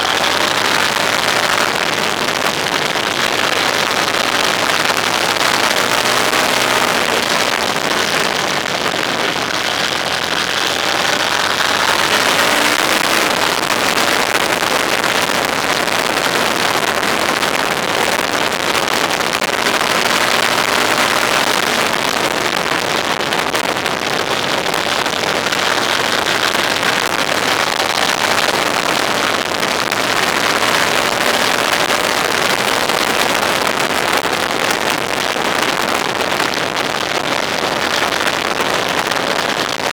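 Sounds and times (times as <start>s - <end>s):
engine hum: 0.0s - 34.2s
wind and road noise: 0.0s - 39.9s.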